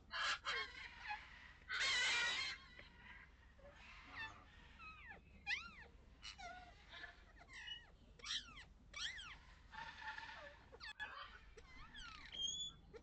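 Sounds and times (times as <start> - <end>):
high-pitched animal calls: 0.1 - 2.8, 3.8 - 13.0.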